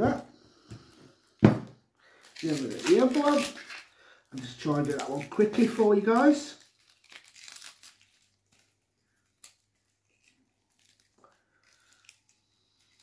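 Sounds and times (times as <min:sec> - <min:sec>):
onion skin crackling and tearing: 0:02.1 - 0:13.0.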